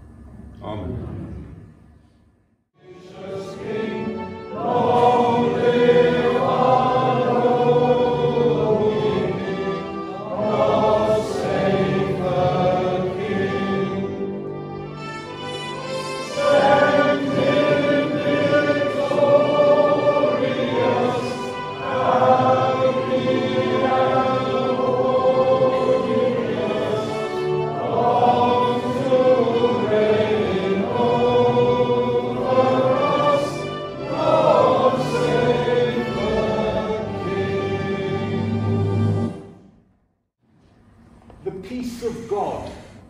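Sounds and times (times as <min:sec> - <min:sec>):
choir singing a hymn: 0:02.8 - 0:39.7.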